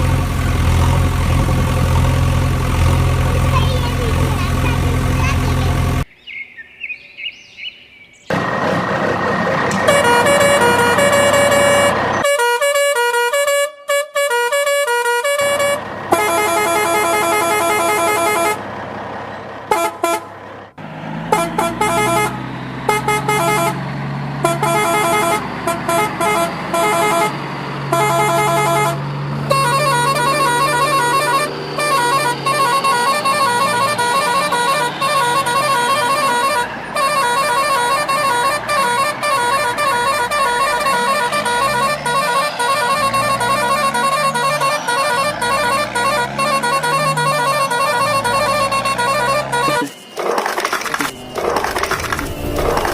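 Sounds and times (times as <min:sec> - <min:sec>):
cartoon vehicle horns honking: 0:00.0 - 0:06.0, 0:08.3 - 0:52.9.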